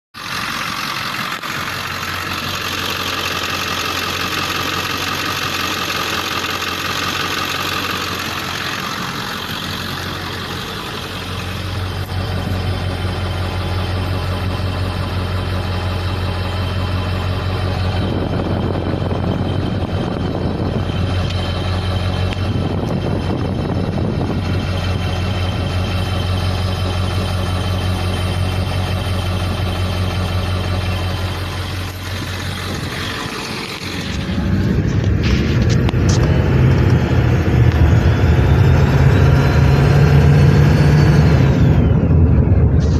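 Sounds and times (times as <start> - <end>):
diesel engine idling: 0.1 - 42.9.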